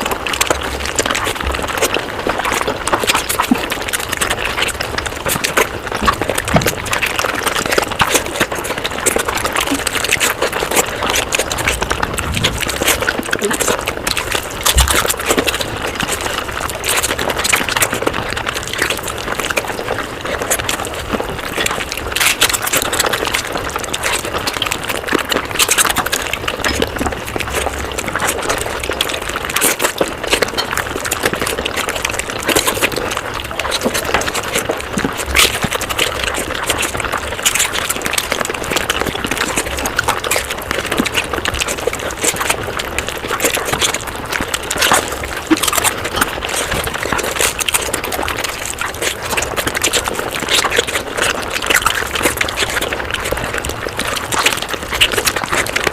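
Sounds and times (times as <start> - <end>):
rapid chewing clicks and smacks: 0.0 - 55.9.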